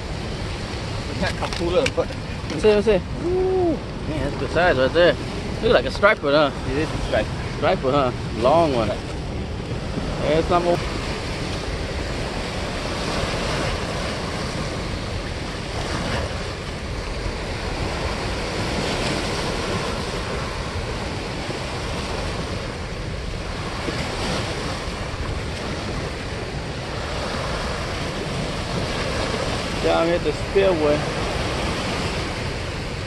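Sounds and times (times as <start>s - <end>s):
water rushing from spillway: 0.0s - 33.0s
wind noise on microphone: 0.0s - 33.0s.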